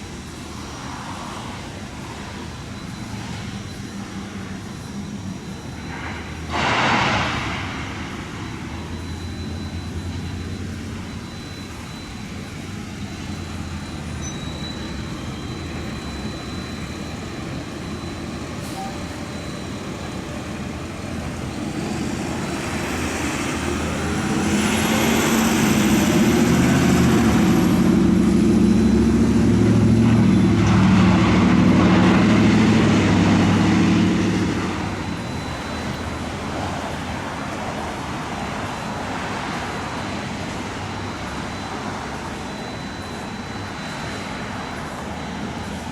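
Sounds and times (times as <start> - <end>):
faint high whine: 0.0 - 45.9
loud rush of noise: 0.0 - 45.9
excavator diesel engine running: 2.4 - 45.9.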